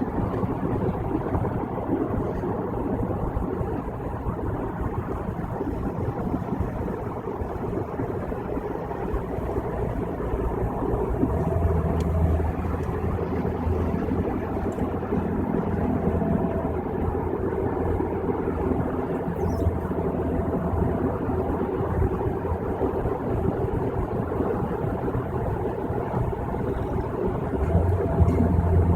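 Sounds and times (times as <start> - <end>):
low hum: 0.0 - 28.9
tyres and engine droning: 0.0 - 28.9.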